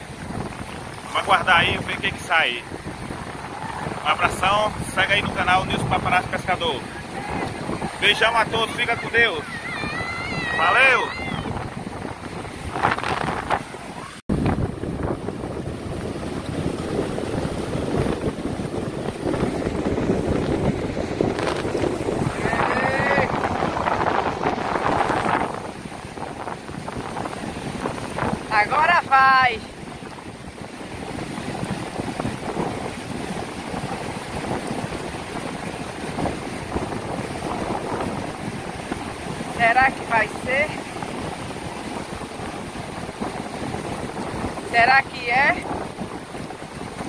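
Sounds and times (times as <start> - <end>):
surf breaking on beach: 0.0 - 47.0
wind buffeting microphone: 0.0 - 47.0.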